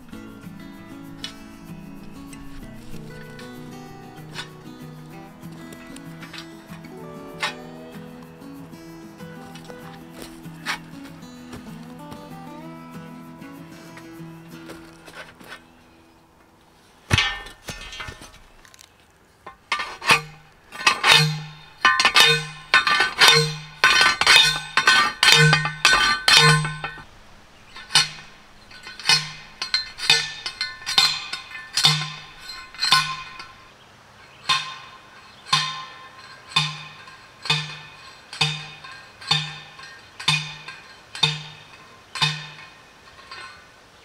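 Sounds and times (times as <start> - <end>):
post driver clanking on metal: 0.8 - 12.2, 17.1 - 18.8, 19.5 - 33.6, 34.3 - 43.8.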